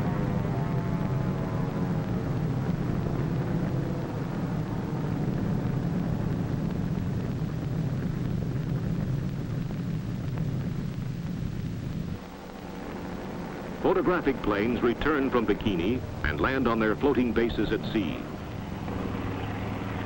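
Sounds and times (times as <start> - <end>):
low rumbling roar: 0.0 - 20.0.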